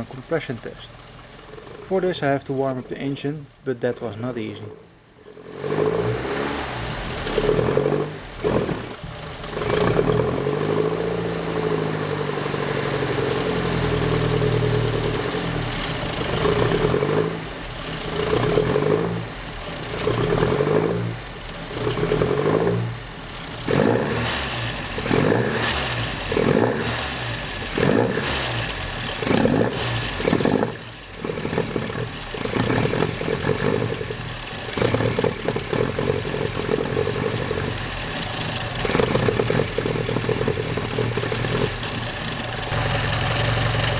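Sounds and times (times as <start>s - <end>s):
car engine running roughly: 0.0s - 43.9s.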